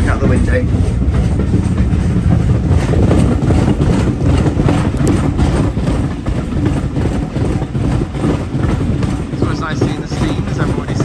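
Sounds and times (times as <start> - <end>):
railway coach rumbling on track: 0.0 - 11.0.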